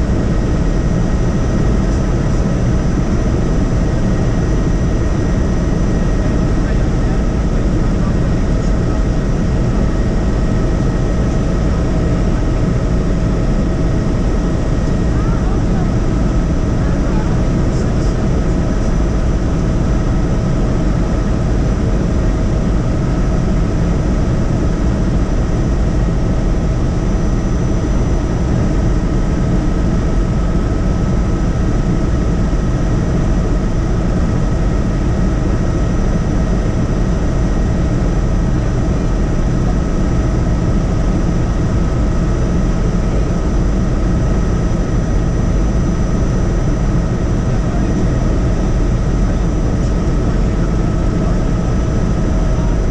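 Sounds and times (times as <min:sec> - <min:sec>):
helicopter rotor and engine drone: 0:00.0 - 0:52.9.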